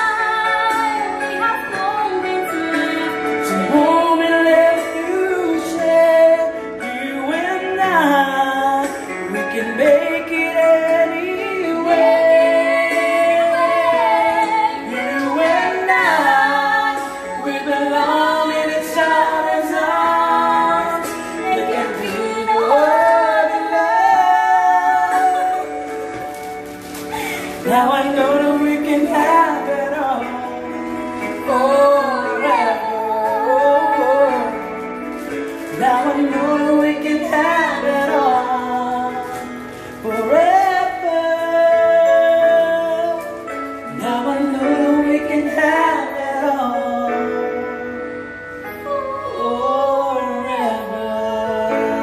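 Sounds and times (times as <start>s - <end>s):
woman singing: 0.0s - 26.2s, 27.1s - 35.0s, 35.7s - 47.5s, 48.6s - 52.0s
man singing: 2.4s - 52.0s.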